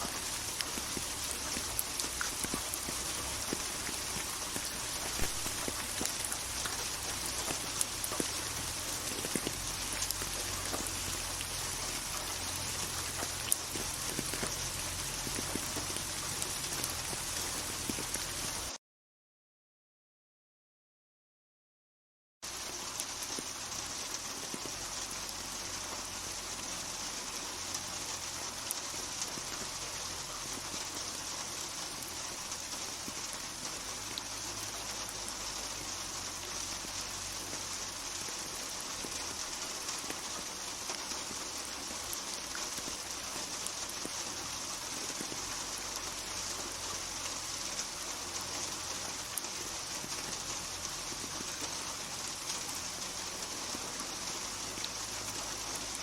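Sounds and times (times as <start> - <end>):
raindrop ticks: 0.0 - 18.7, 22.5 - 56.0
steady rainfall: 0.0 - 18.8, 22.4 - 56.0.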